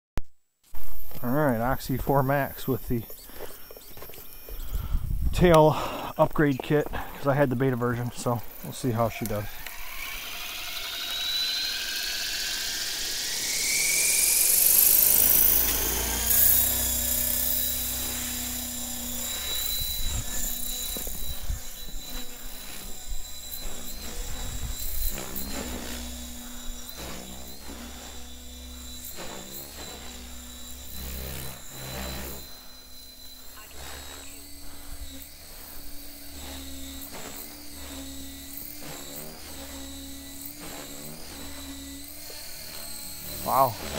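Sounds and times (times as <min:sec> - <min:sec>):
rotor buzz: 0:00.4 - 0:43.9
electric rc helicopter motor whine: 0:00.6 - 0:43.9.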